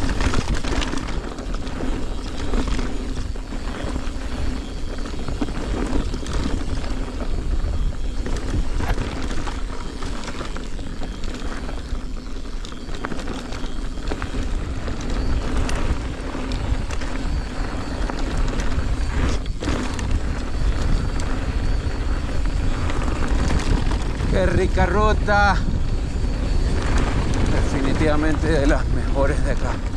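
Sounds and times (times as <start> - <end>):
bike rattles and clicks: 0.0 - 29.9
wind buffeting microphone: 0.0 - 29.9.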